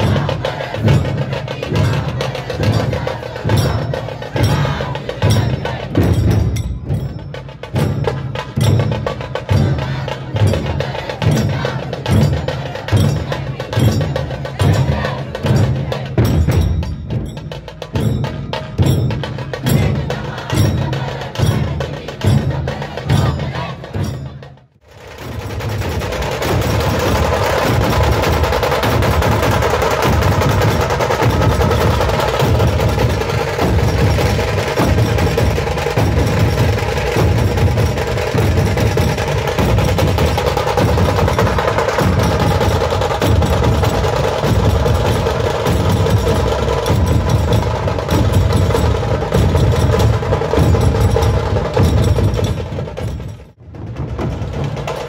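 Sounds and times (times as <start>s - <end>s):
barrel drums beating: 0.0s - 55.0s.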